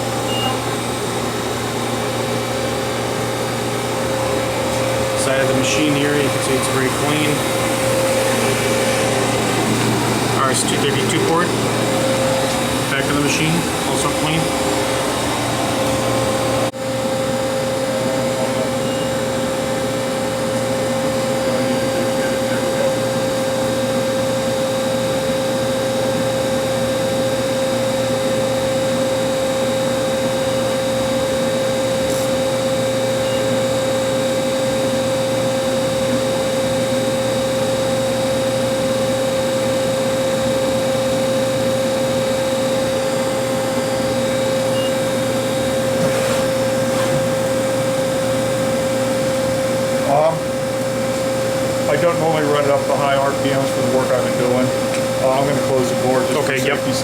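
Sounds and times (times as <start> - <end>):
lathe humming with a whine: 0.0 - 57.0.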